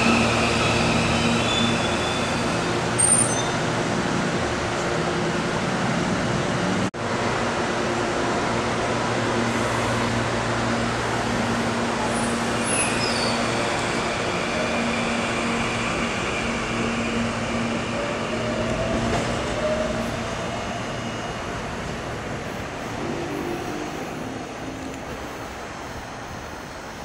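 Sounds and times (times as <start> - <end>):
electric train hum and rumble: 0.0 - 27.0.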